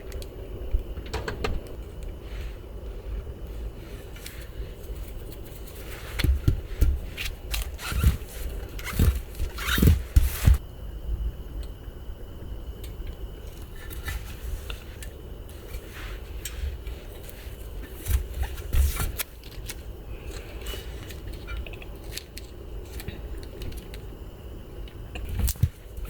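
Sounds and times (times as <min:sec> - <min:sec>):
background hum: 0:00.0 - 0:26.0.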